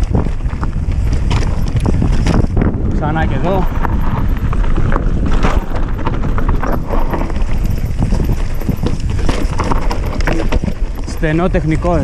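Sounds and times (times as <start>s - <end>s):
bike tyres rumbling over dirt: 0.0s - 12.0s
chain and frame clattering: 1.3s - 12.0s.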